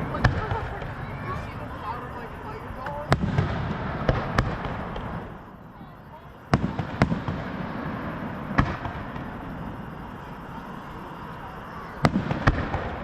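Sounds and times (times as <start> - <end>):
firework bangs: 0.0 - 13.0
fireworks din: 0.0 - 13.0.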